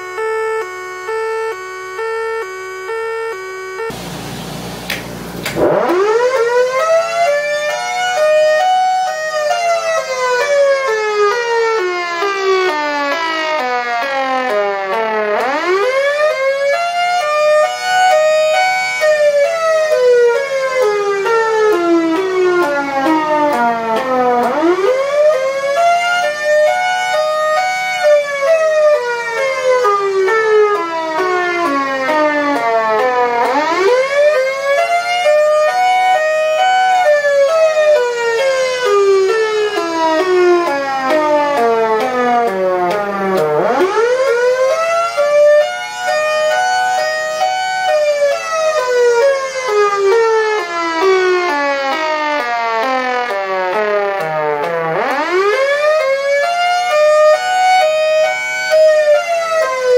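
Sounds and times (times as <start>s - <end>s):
siren wailing: 0.0s - 4.0s, 5.2s - 59.9s.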